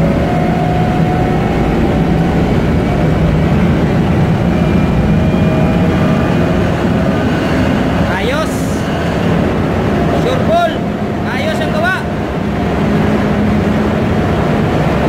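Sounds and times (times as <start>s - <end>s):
pump machinery drone: 0.0s - 15.0s.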